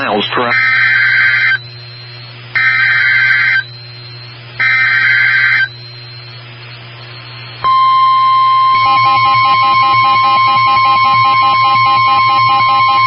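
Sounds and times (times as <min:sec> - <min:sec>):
steady warning alarm tone: 0:00.0 - 0:13.0.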